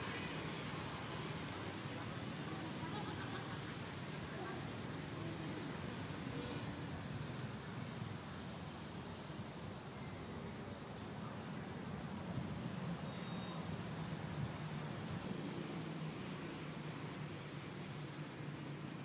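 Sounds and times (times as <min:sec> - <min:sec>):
insect calling in fast pulses: 0:00.0 - 0:15.3
thin steady whine: 0:00.0 - 0:15.9.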